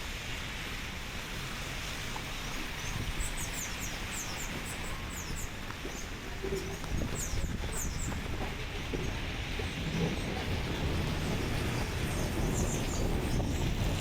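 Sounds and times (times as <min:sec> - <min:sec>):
hiss of wet snowstorm: 0:00.0 - 0:14.0.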